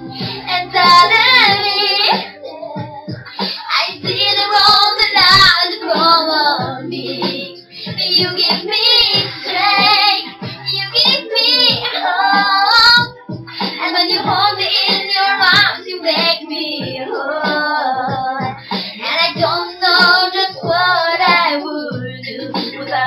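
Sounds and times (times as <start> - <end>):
girl singing pop song: 0.0 - 23.0.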